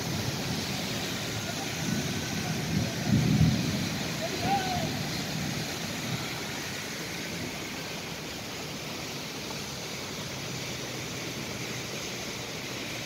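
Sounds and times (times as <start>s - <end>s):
heavy rain hissing: 0.0s - 13.0s
traffic driving through water: 0.0s - 13.0s.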